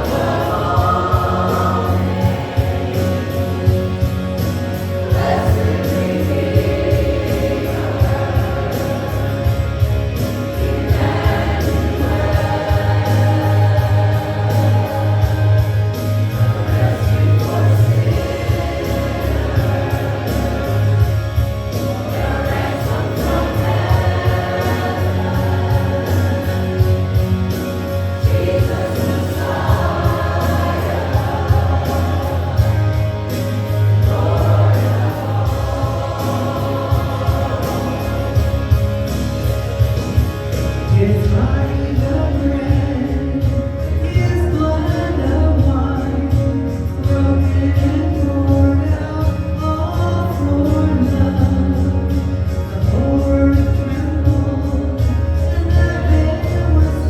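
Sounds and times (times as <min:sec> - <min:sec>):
band with steady beat: 0:00.0 - 0:57.0
group singing gospel song: 0:00.0 - 0:57.0.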